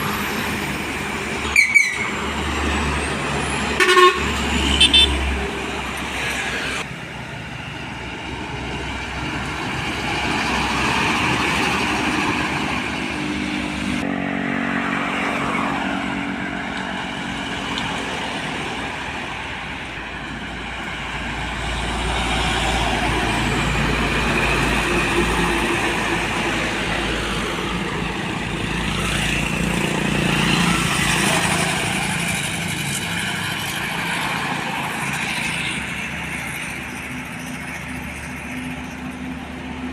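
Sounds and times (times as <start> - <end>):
trucks and vehicles passing: 0.0 - 39.9.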